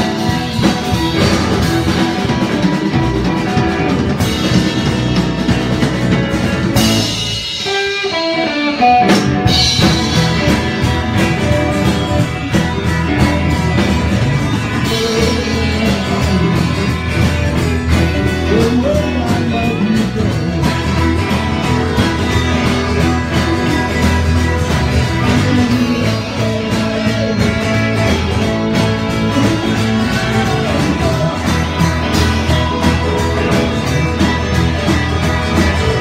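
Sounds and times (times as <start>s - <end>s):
electric guitar run: 0.0s - 36.0s
live rock band playing: 0.0s - 36.0s.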